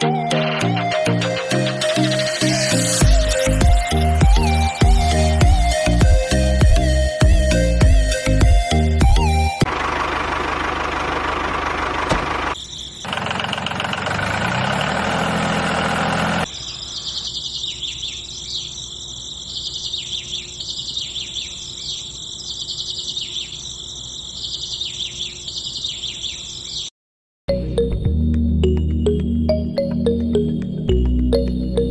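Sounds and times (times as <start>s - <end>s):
birds chirping: 0.2s - 8.4s, 9.1s - 26.9s.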